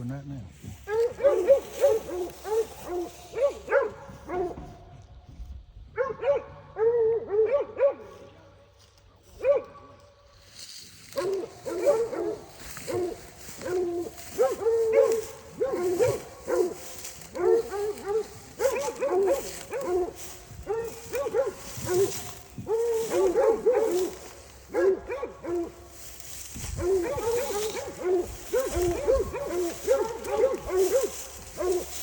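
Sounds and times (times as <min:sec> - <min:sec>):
hounds barking and bawling: 0:00.7 - 0:04.9, 0:05.9 - 0:08.2, 0:10.6 - 0:32.0.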